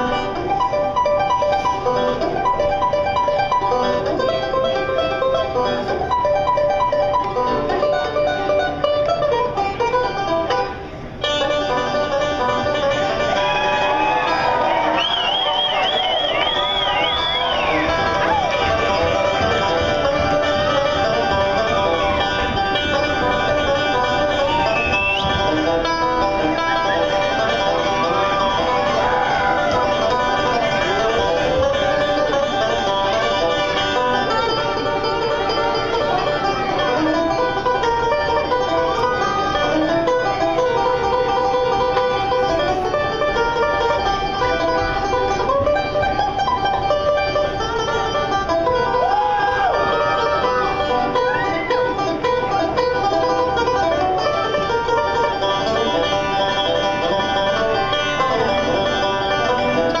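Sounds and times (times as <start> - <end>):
banjo picking: 0.0 - 60.0.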